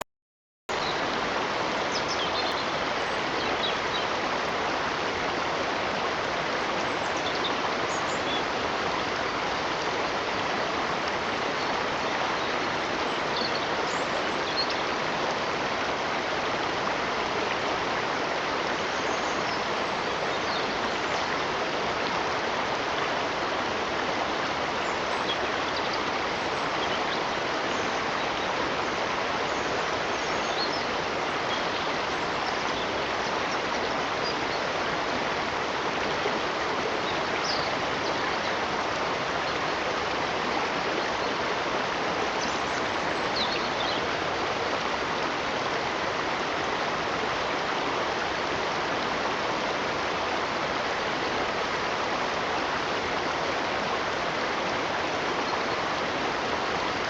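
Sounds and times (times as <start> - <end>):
stream rushing: 0.7 - 57.0.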